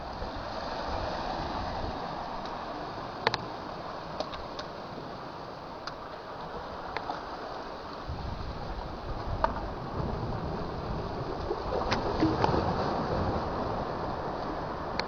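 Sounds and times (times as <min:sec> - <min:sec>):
sea water washing: 0:00.0 - 0:15.0.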